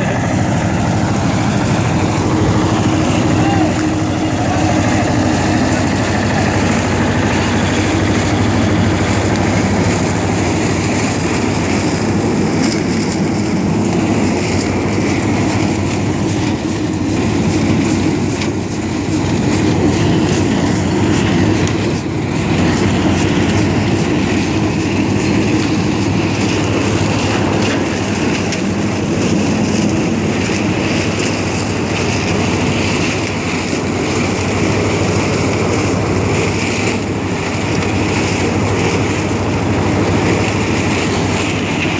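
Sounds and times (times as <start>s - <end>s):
corn picker mechanical clatter: 0.0s - 41.9s
tractor engine: 0.0s - 41.9s.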